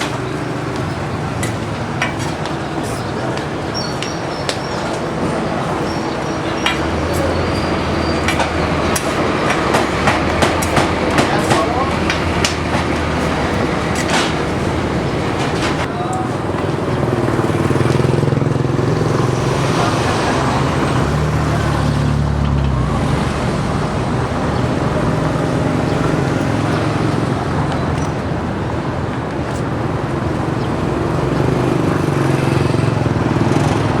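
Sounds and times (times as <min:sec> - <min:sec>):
heavy low engine hum: 0:00.0 - 0:34.0
vehicle engines passing: 0:00.0 - 0:34.0.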